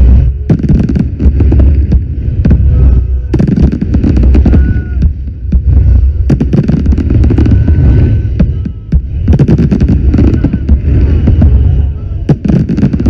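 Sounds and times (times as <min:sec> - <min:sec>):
deep heavy rumble: 0:00.0 - 0:13.0
fireworks bangs and crackles: 0:00.0 - 0:13.0
fireworks whistling: 0:00.0 - 0:13.0.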